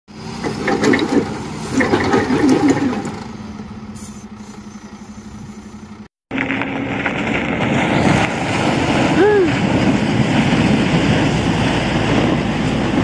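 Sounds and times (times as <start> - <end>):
diesel engine starting and idling: 0.1 - 13.0.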